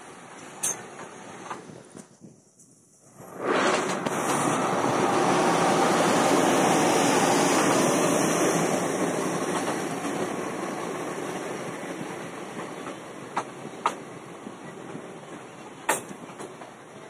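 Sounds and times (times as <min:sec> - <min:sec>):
train wheels rushing on rails: 0:00.0 - 0:02.5, 0:03.1 - 0:17.0.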